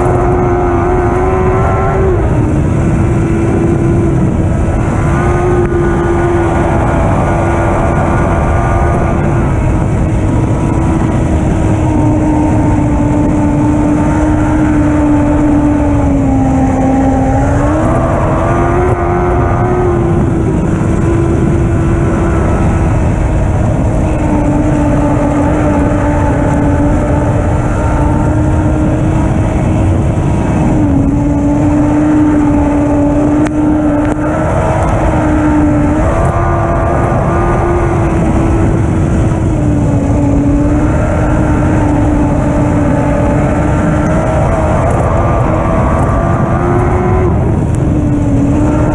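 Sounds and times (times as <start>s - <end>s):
loud low rumble: 0.0s - 48.9s
race car engine at high revs: 0.0s - 48.9s.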